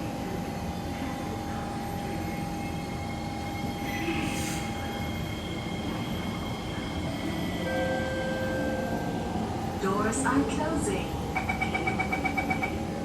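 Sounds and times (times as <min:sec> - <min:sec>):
train equipment hum: 0:00.0 - 0:13.0.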